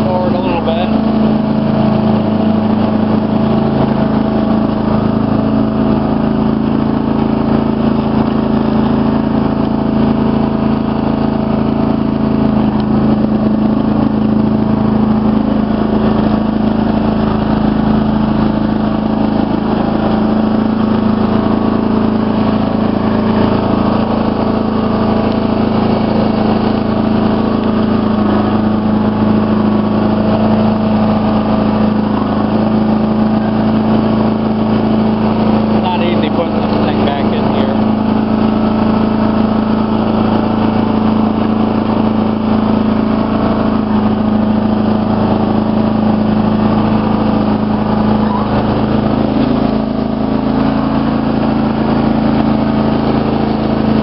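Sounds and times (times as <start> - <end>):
riding lawn mower engine: 0.0 - 54.0.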